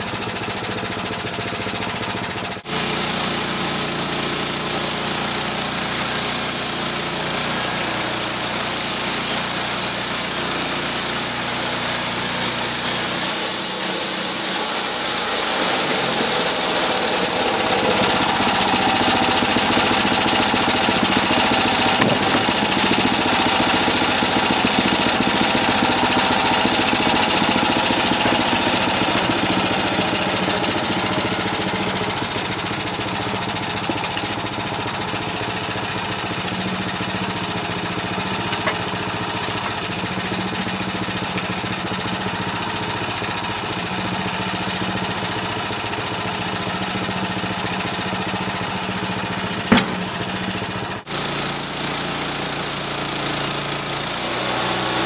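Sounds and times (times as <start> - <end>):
sawmill gasoline engine running: 0.0 - 55.0.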